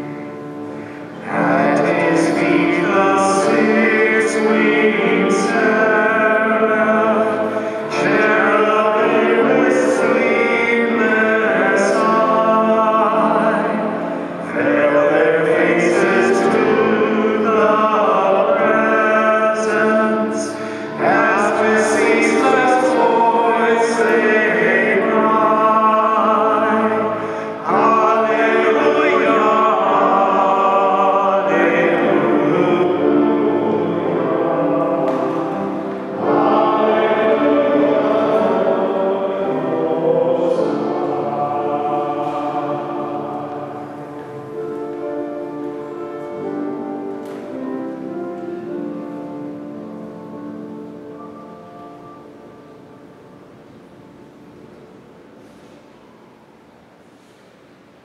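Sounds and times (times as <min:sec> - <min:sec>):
hymn singing with accompaniment: 0:00.0 - 0:58.0.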